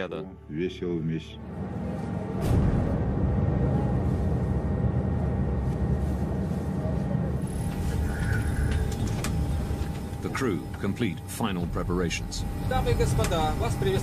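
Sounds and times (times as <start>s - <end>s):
steady low rumble: 0.5s - 14.0s.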